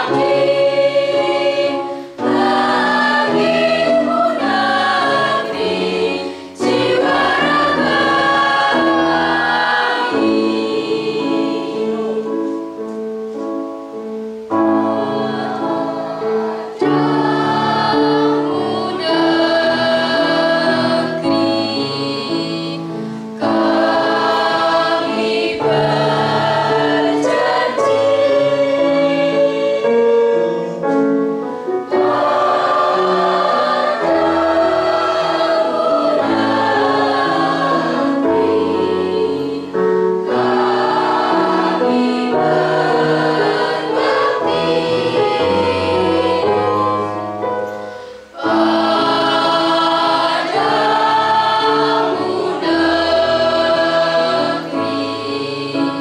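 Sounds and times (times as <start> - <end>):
choir singing long notes: 0.0 - 56.0.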